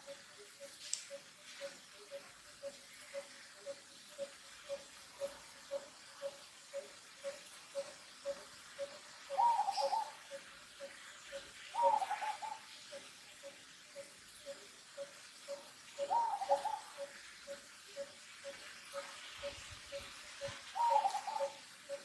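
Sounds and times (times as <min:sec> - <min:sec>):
wavering bird calls: 0:00.0 - 0:22.0.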